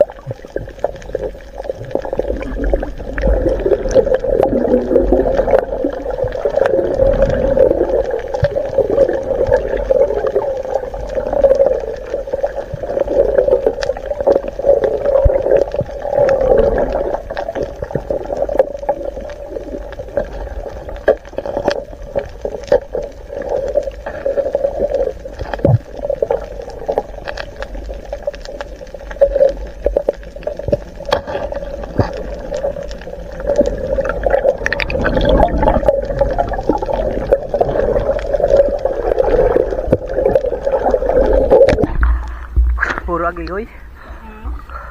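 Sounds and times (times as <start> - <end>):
sharp clicks and crackles: 0.0 - 43.6
underwater churning hum: 0.0 - 44.9.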